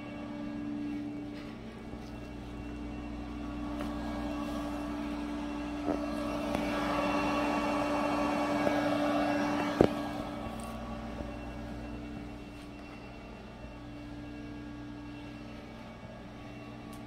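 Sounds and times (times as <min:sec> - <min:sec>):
cooling fan humming: 0:00.0 - 0:17.0.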